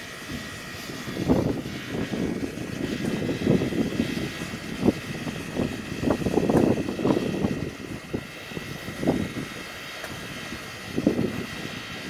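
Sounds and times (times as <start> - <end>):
gusts of steam noise: 0.0 - 12.0
thin high whine: 0.0 - 12.0.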